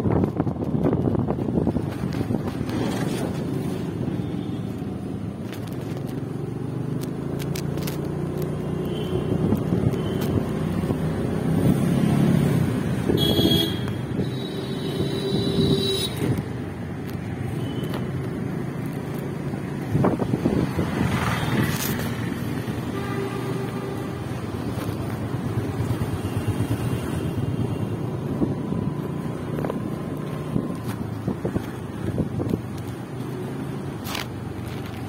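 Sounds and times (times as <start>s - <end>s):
road traffic noise: 0.0s - 35.0s.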